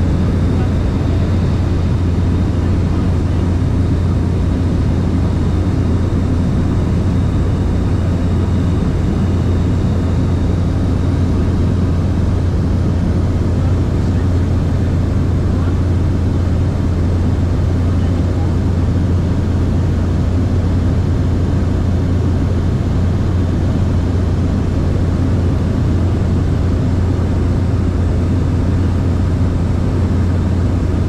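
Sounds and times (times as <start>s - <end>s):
air noise in cabin: 0.0s - 31.0s
light aircraft engine drone: 0.0s - 31.0s.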